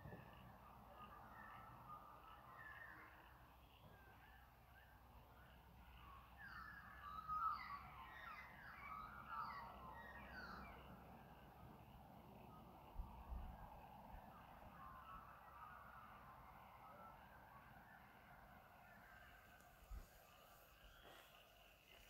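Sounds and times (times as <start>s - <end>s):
chorus of wild birds calling: 0.1s - 22.0s.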